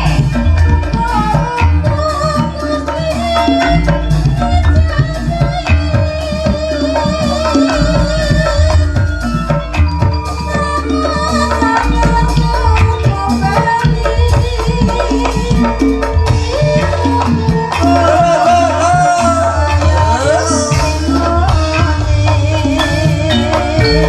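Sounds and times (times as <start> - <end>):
gamelan music: 0.0 - 24.0
hand drumming: 0.0 - 24.0
pitched percussion notes: 0.0 - 24.0
wavering melody line: 0.0 - 24.0.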